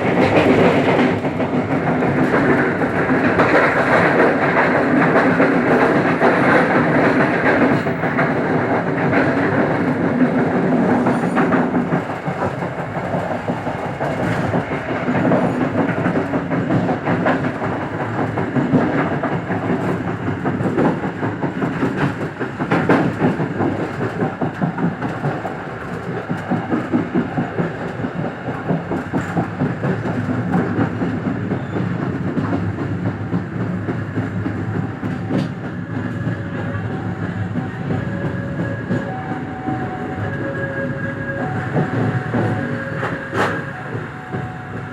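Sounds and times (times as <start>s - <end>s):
train rumbling: 0.0s - 44.9s.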